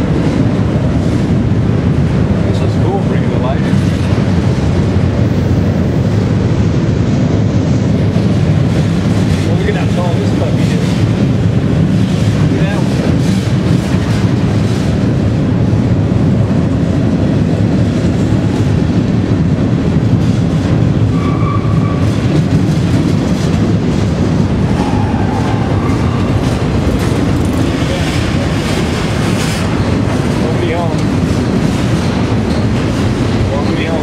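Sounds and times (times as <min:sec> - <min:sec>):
freight train rumbling in tunnel: 0:00.0 - 0:34.0.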